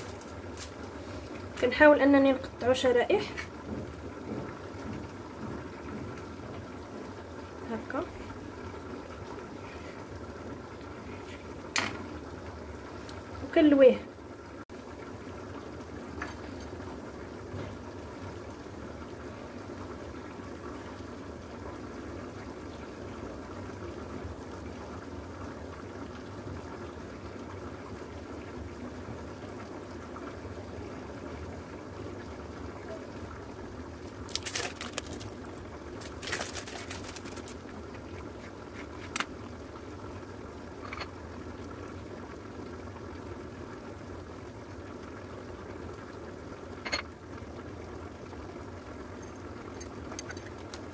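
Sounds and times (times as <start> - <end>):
pot boiling: 0.0 - 50.9.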